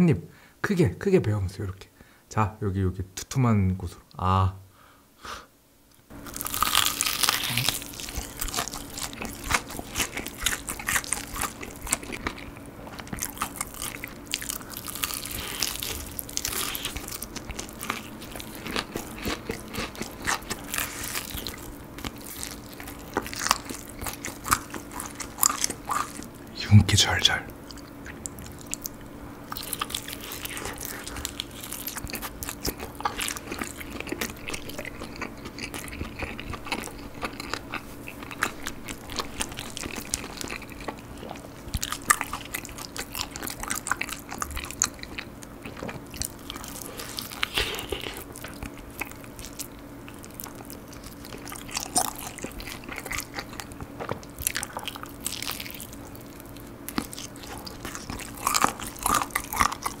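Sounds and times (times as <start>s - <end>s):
faint steady hum: 0.0s - 60.0s
crunchy chewing of fried chicken: 6.1s - 60.0s.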